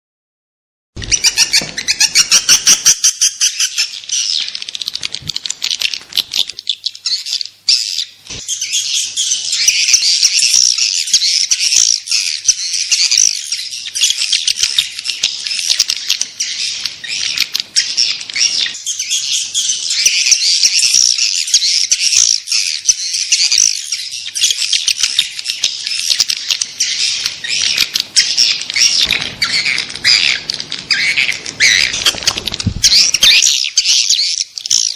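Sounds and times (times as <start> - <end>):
swiftlets twittering and chirping: 1.0 - 34.9.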